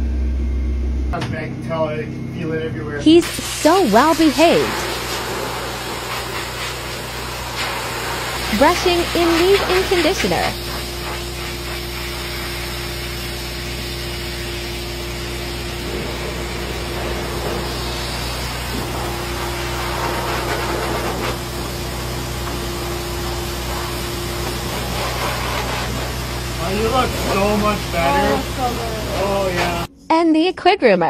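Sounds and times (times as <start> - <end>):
motor running: 2.0 - 29.9.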